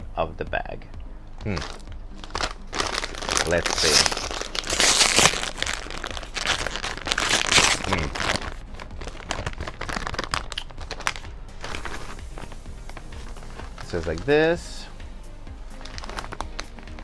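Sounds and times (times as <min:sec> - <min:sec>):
plastic bag crinkling: 0:01.5 - 0:14.4, 0:15.8 - 0:17.0.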